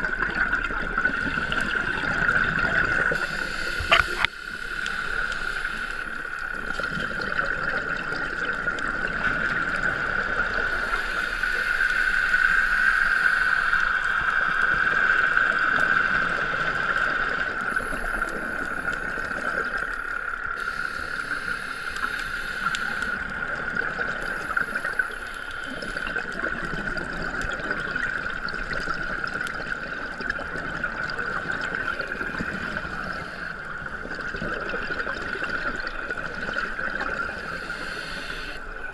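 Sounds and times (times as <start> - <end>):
high hum underwater: 0.0 - 38.9
water and bubbles hissing: 0.0 - 38.9.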